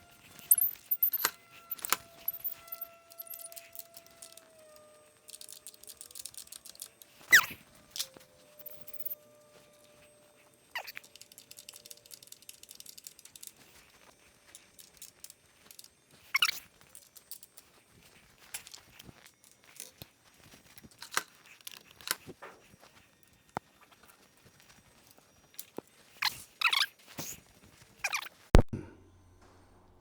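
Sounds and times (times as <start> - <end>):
handling clicks and knocks: 0.0 - 26.4.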